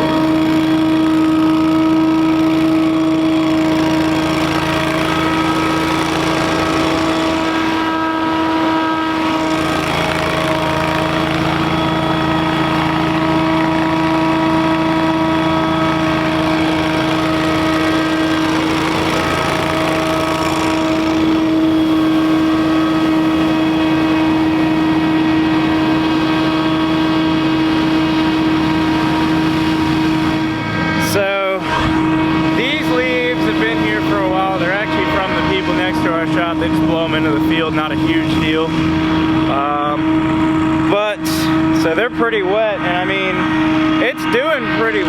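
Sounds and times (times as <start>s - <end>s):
leaf blower engine drone: 0.0s - 45.0s.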